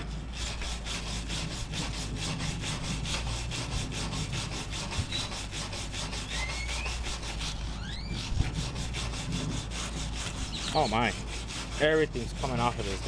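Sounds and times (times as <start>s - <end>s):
wire brush scrubbing steel: 0.0s - 13.0s.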